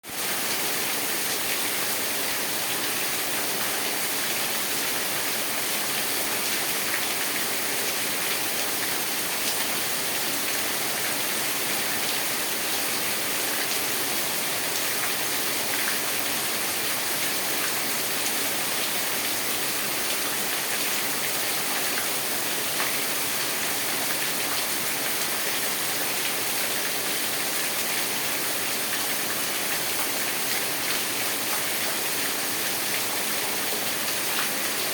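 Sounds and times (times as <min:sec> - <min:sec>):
rain falling: 0:00.1 - 0:34.9.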